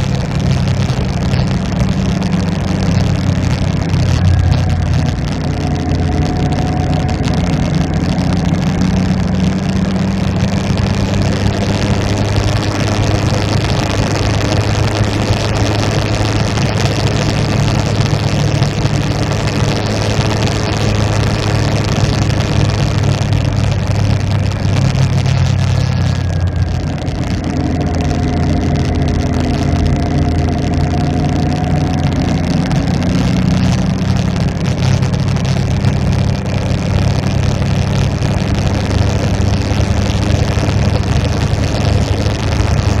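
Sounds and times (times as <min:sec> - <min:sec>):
motorcycle engine running: 0:00.0 - 0:43.0
road and wind noise: 0:00.0 - 0:43.0.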